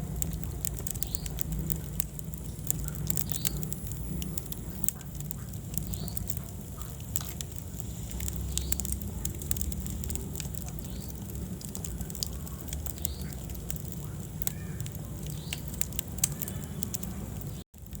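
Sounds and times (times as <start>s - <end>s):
fire crackling and popping: 0.0s - 18.0s
low rumble of flames: 0.0s - 18.0s.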